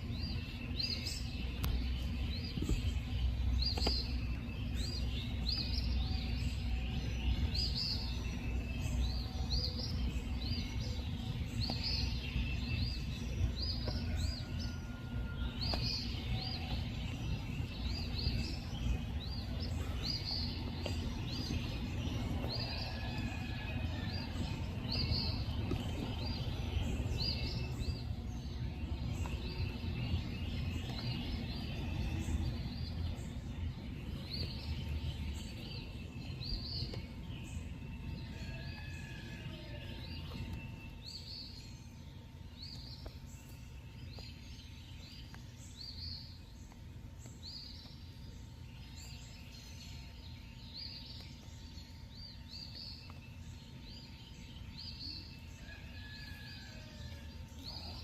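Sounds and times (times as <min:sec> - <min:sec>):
steady low rumble: 0:00.0 - 0:55.6.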